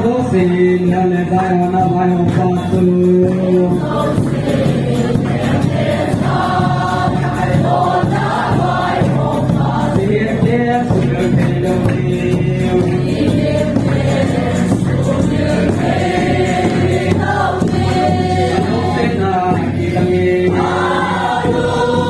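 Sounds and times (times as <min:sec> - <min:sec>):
acoustic guitar: 0:00.0 - 0:22.0
congregation singing a hymn: 0:00.0 - 0:22.0
large drum beating: 0:00.0 - 0:22.0.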